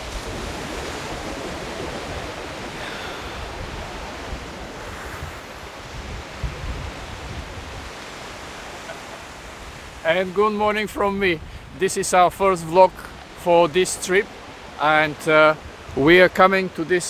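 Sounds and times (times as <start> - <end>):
wind buffeting microphone: 0.0 - 16.4
surf washing onto beach: 0.0 - 17.0.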